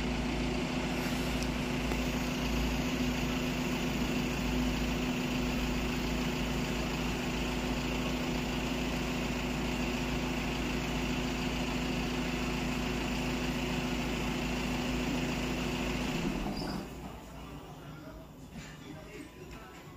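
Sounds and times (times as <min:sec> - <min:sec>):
car engine idling: 0:00.0 - 0:18.1.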